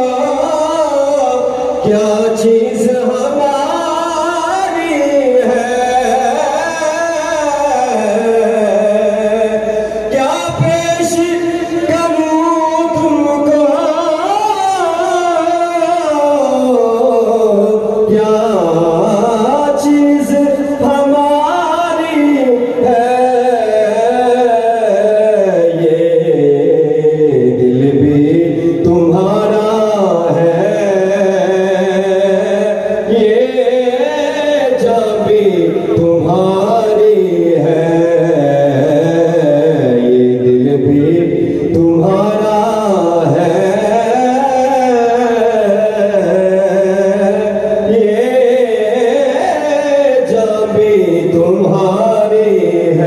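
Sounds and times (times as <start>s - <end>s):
man singing unaccompanied: 0.0s - 53.0s.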